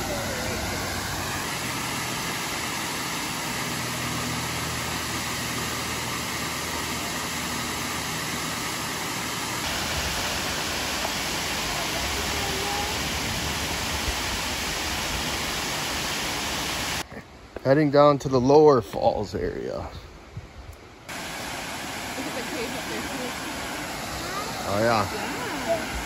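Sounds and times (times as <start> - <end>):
waterfall rushing: 0.0 - 17.0, 21.1 - 26.0.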